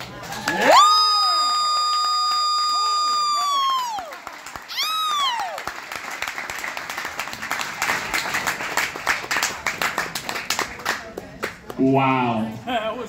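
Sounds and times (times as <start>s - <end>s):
audience applause: 0.0s - 11.8s.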